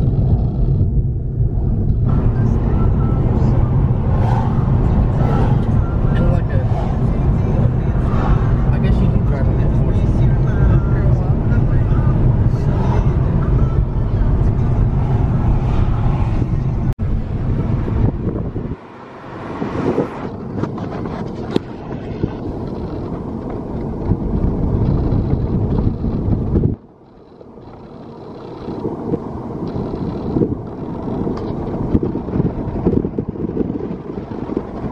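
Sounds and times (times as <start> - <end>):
car road noise: 0.0 - 34.9
wind buffeting microphone: 0.0 - 34.9.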